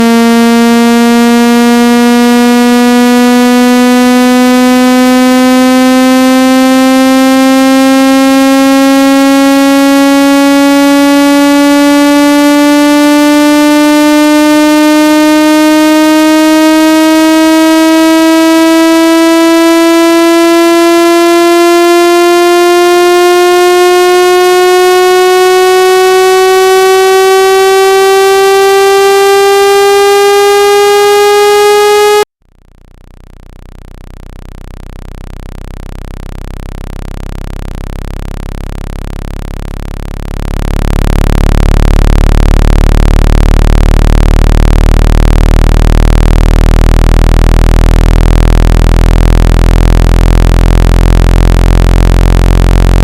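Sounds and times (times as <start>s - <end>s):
buzzy rising tone: 0.0s - 32.3s, 37.4s - 53.0s
low buzzing drone: 0.0s - 53.0s.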